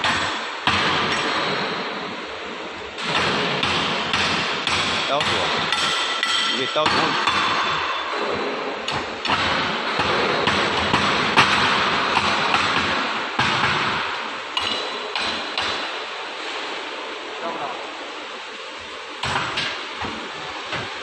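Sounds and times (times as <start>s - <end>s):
steady noisy background: 0.0s - 21.0s.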